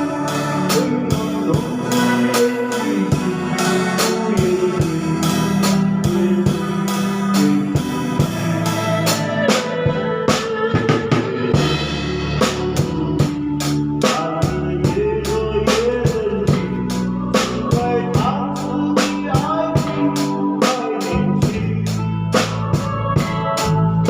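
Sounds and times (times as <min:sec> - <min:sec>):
bass guitar notes: 0:00.0 - 0:24.0
drum kit beat: 0:00.0 - 0:24.0
electric guitar: 0:00.0 - 0:24.0.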